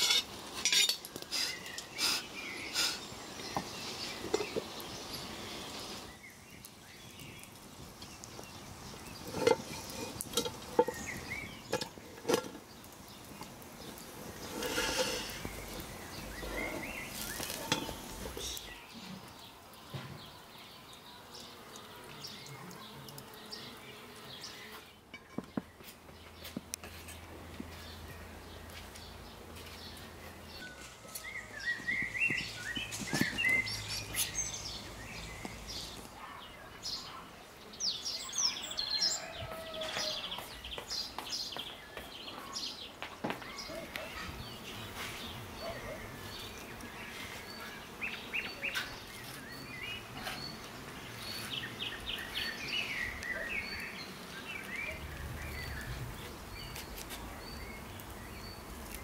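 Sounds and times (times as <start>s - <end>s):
outdoor background noise: 0.0s - 59.0s
small birds chirping and singing: 0.0s - 59.0s.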